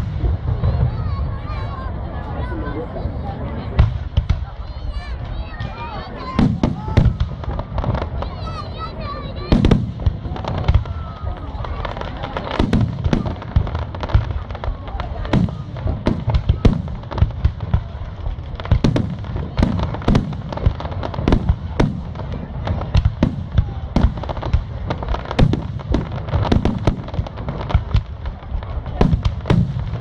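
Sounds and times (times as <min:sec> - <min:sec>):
fireworks booms and cracks: 0:00.0 - 0:30.0.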